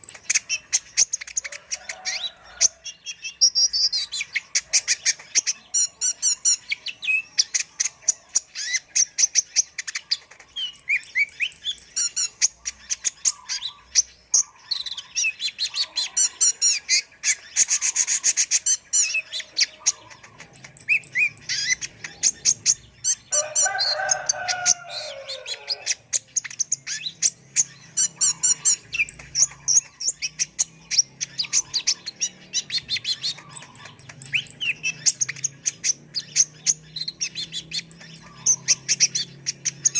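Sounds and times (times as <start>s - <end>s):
bird song with high chirps: 0.0s - 39.9s.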